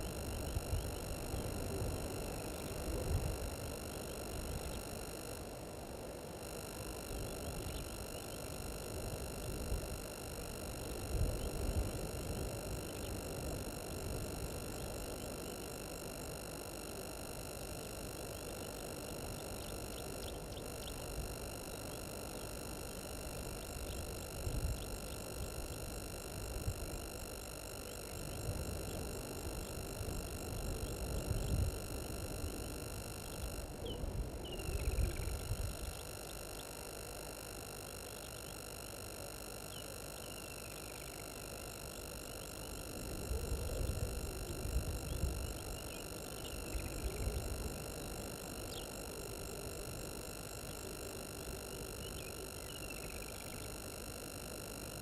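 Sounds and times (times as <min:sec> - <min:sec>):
steady electronic whine: 0:00.0 - 0:55.0.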